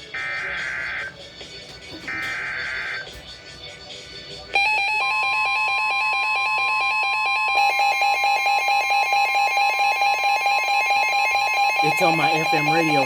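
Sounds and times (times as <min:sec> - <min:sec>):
second steady alarm tone: 0:00.0 - 0:01.2, 0:02.0 - 0:03.2, 0:04.5 - 0:13.0
harsh fluttering alarm tone: 0:00.0 - 0:01.4, 0:02.0 - 0:03.2, 0:04.4 - 0:13.0.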